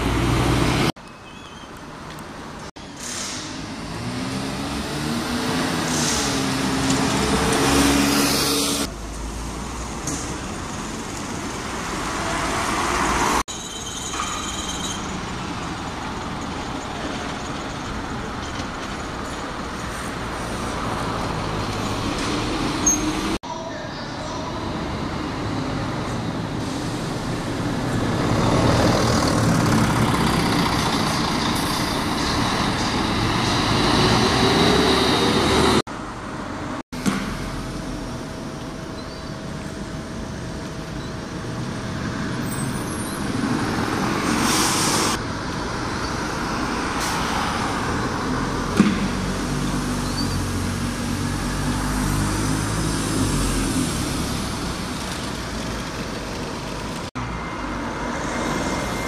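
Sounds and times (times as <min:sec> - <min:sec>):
bus engines under load: 0:00.0 - 0:59.0
passing street traffic: 0:00.0 - 0:59.0.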